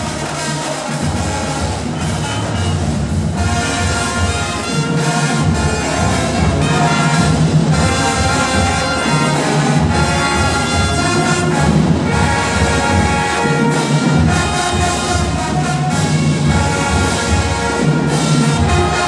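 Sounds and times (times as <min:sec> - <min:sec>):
marching brass band playing: 0:00.0 - 0:19.0.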